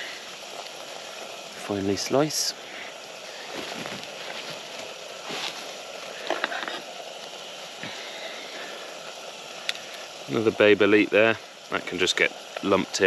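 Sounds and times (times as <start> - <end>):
mushrooms sizzling in butter: 0.0 - 13.0.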